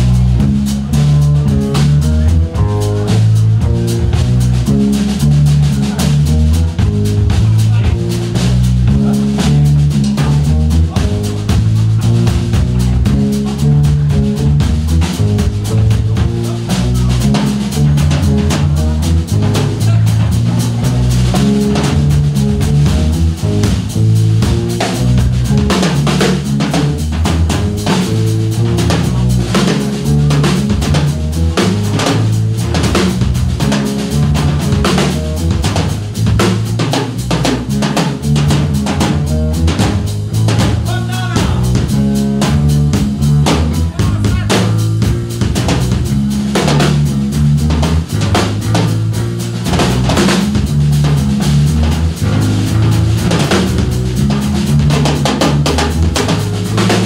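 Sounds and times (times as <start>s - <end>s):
drum kit beat: 0.0s - 57.0s
walking bass line: 0.0s - 57.0s.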